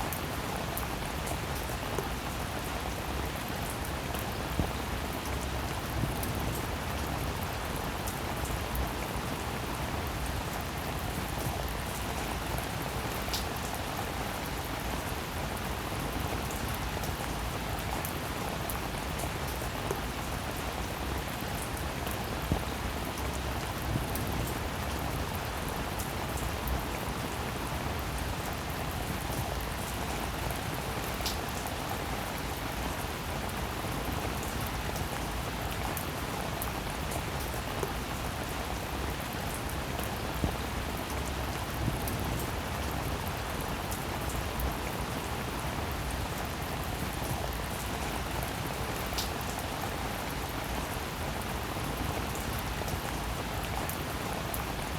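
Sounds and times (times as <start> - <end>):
rain pattering on surfaces: 0.0 - 54.9.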